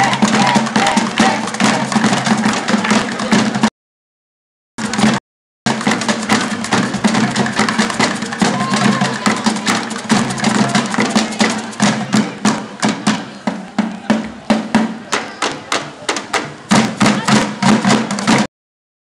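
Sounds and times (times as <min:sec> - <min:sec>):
drum and stick hits: 0:00.0 - 0:03.7, 0:04.8 - 0:18.5
drum ensemble playing samba rhythm: 0:00.0 - 0:03.7, 0:04.8 - 0:18.5.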